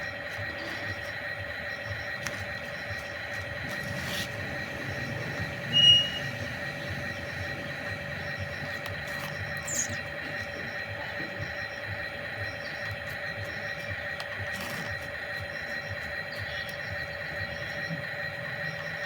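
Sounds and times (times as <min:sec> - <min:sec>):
toy electric motors whining: 0:00.0 - 0:19.0.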